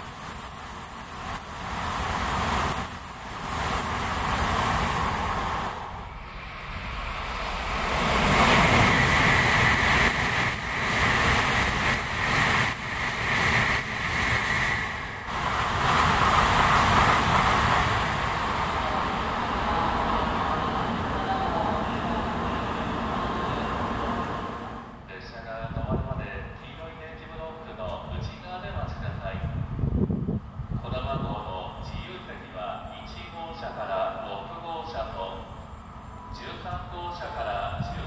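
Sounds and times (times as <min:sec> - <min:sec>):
high-speed trains passing: 0:00.0 - 0:38.0.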